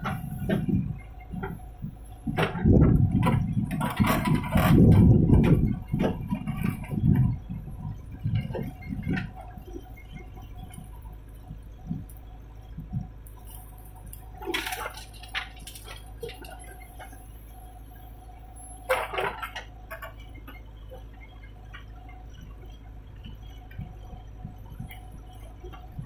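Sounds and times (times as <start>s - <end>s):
backhoe loader diesel hum: 0.0s - 26.0s.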